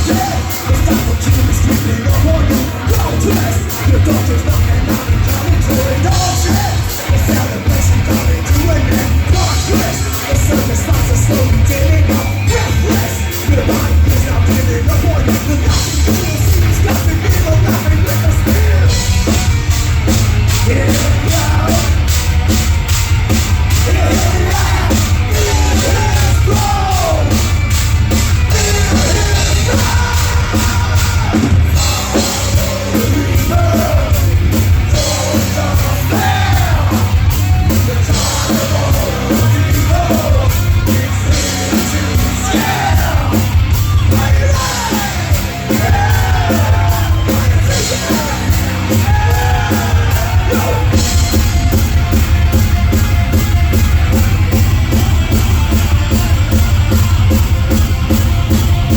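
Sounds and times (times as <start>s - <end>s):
person singing and yelling: 0.0s - 19.3s, 20.6s - 22.2s, 23.7s - 27.7s, 28.4s - 51.7s
drums with fast cymbal beat: 0.0s - 58.9s
heavy guitars: 0.0s - 58.9s
live rock band playing: 0.0s - 58.9s.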